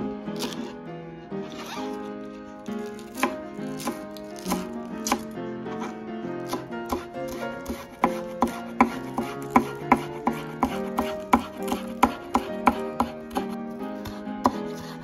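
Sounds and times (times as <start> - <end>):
knife chopping on cutting board: 0.4 - 0.7, 2.7 - 15.0.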